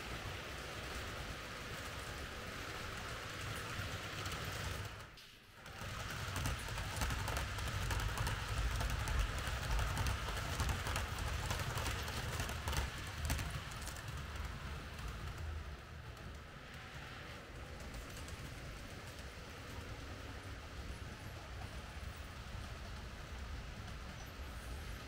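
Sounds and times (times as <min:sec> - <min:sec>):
clicking and rattling on track: 0:00.0 - 0:25.0
model trains rumbling: 0:00.0 - 0:25.0.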